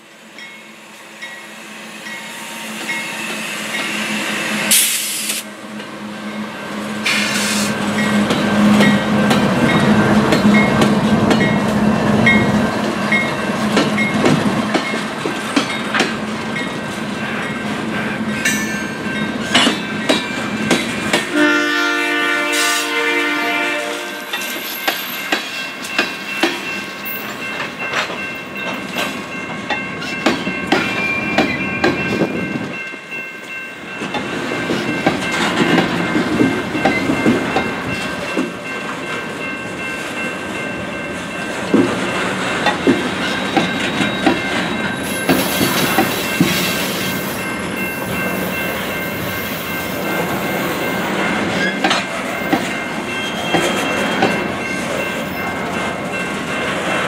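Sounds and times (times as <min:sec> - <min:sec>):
crossing bell ringing: 0:00.3 - 0:04.8, 0:07.8 - 0:57.0
train wheels click-clacking: 0:07.0 - 0:21.4, 0:24.3 - 0:57.0.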